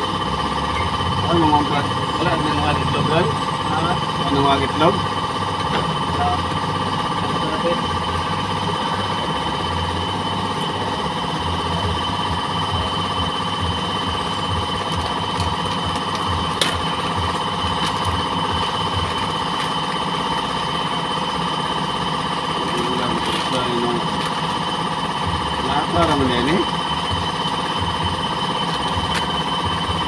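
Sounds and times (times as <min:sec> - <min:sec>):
motor running with high whine: 0:00.0 - 0:30.0.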